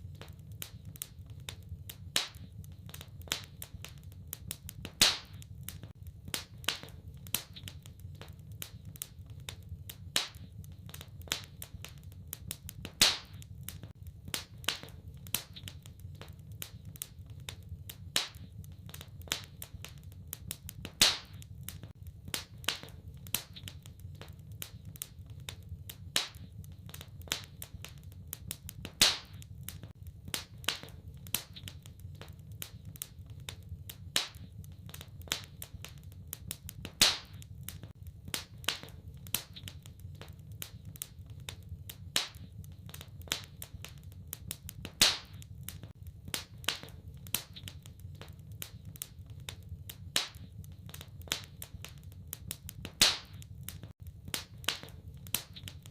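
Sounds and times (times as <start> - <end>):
loud fire pops: 0.0 - 55.9
wood fire crackling: 0.0 - 55.9.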